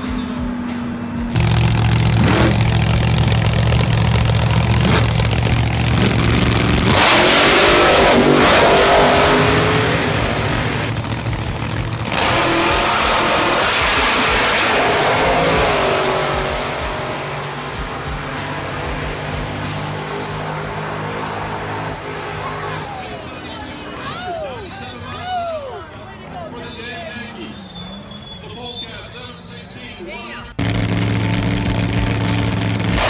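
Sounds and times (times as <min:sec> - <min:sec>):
drag racing car engines: 0:00.0 - 0:33.0.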